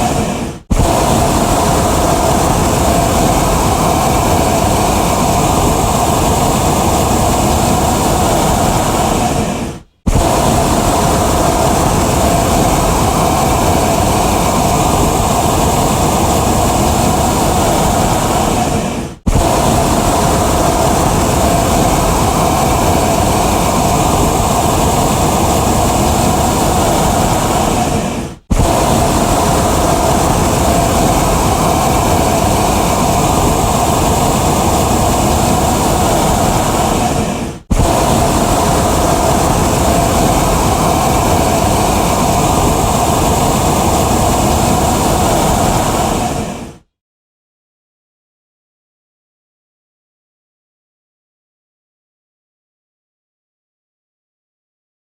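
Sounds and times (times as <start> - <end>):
propane burner flame rushing: 0.0 - 46.8.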